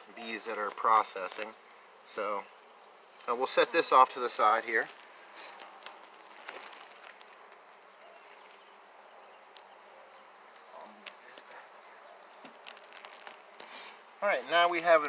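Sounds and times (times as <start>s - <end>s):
bees buzzing: 1.0s - 14.2s.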